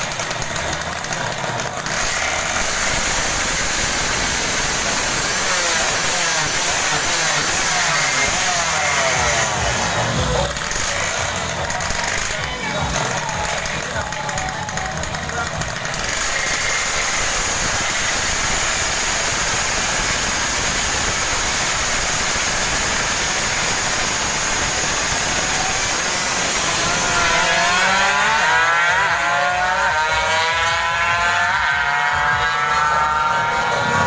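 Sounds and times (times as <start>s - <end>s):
motorcycle engine shifting gears: 0.0s - 34.0s.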